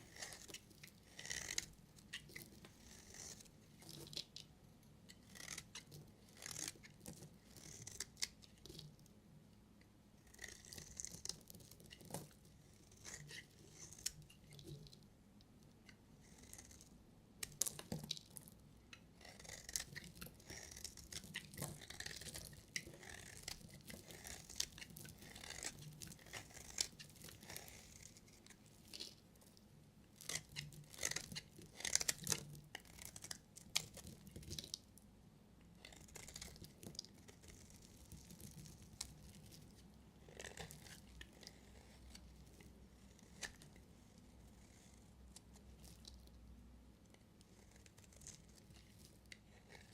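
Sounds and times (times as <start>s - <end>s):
knife cutting soap: 0.0s - 4.5s, 5.1s - 9.0s, 10.2s - 15.0s, 15.9s - 29.5s, 30.1s - 34.8s, 35.7s - 46.2s, 47.5s - 49.9s.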